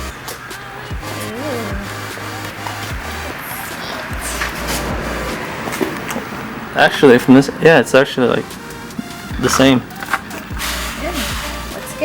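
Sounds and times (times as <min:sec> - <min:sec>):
deep bass music: 0:00.0 - 0:12.0.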